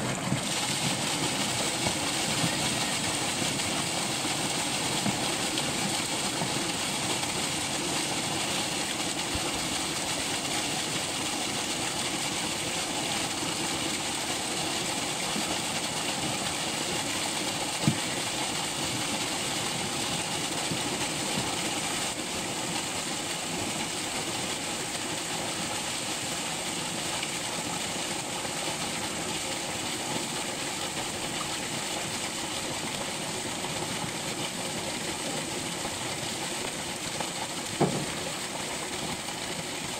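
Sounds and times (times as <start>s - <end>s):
water gushing and splashing into lake: 0.0s - 39.9s.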